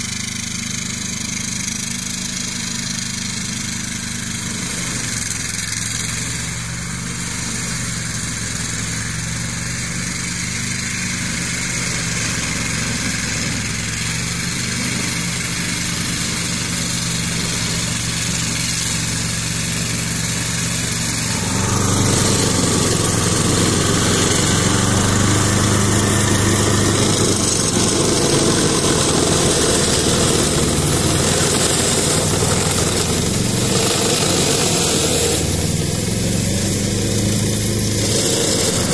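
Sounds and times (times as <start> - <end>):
mower cutting grass: 0.0 - 38.9
tractor engine running: 0.0 - 38.9.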